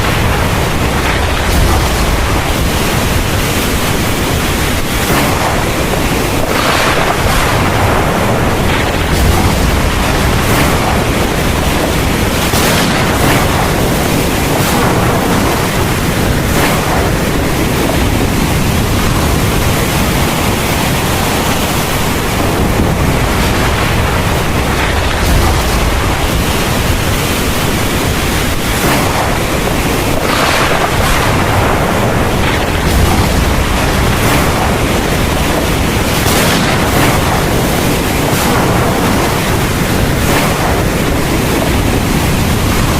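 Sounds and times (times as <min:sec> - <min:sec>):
heavy rain: 0:00.0 - 0:42.9
low thunder rumbles: 0:00.0 - 0:42.9.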